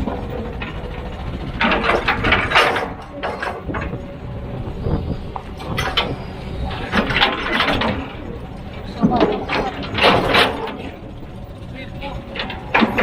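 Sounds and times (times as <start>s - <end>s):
heavy machinery engine rumble: 0.0s - 13.0s
machinery knocks and clanks: 0.0s - 13.0s.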